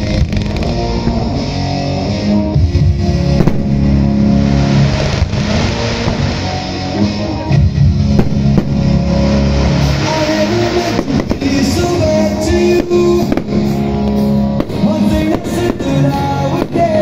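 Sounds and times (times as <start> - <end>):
rock music over loudspeakers: 0.0 - 17.0.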